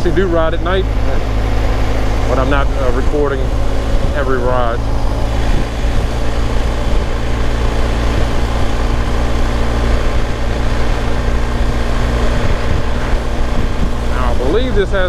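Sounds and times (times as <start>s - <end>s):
motorcycle engine cruising: 0.0s - 15.0s
wind rushing: 0.8s - 15.0s.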